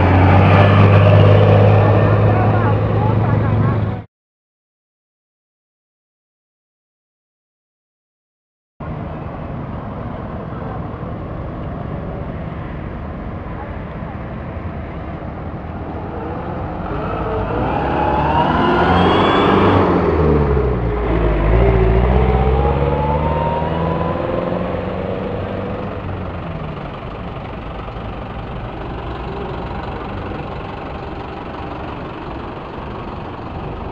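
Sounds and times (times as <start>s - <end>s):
steady traffic noise: 0.0s - 4.1s, 8.8s - 33.9s
vehicle engine passing: 0.0s - 4.1s, 8.8s - 33.9s.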